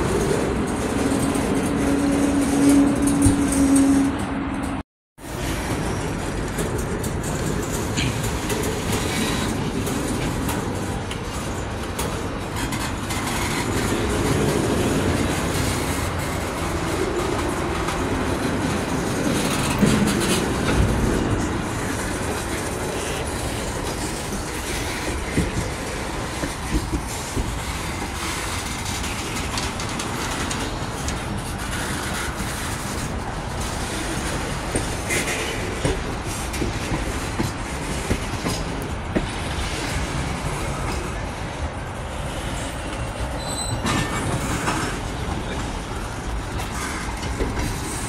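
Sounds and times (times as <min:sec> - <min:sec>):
freight car clicks and clanks: 0:00.0 - 0:48.0
train wheels rumbling on rails: 0:00.0 - 0:48.0.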